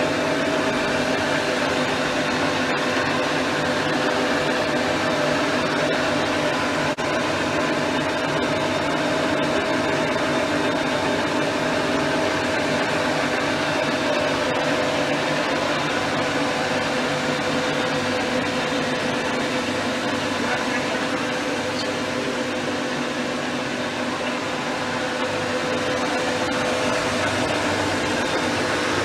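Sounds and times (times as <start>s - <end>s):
lathe running: 0.0s - 29.0s.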